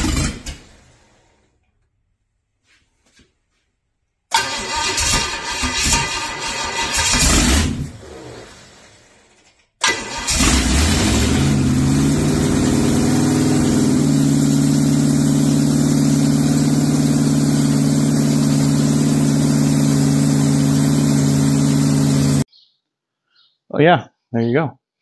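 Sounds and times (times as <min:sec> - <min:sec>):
engine starting and running: 0:00.0 - 0:01.9, 0:04.3 - 0:22.5.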